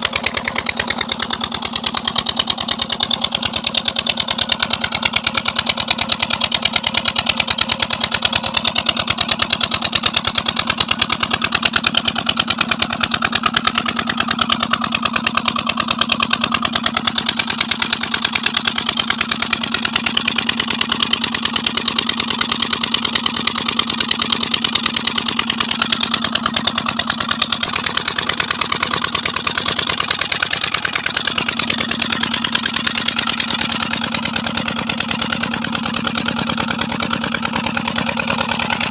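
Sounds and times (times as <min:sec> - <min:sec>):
diesel engine running steadily: 0:00.0 - 0:38.9.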